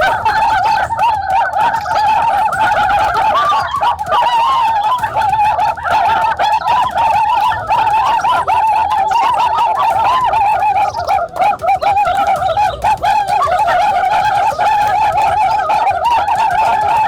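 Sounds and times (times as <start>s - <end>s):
birds warbling chorus: 0.0s - 17.0s.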